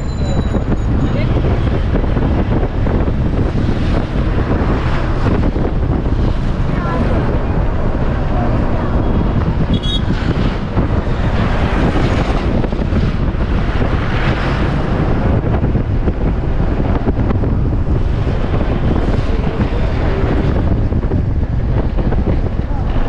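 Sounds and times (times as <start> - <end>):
bus engine and road noise: 0.0 - 23.0
wind rushing over microphone: 0.0 - 23.0.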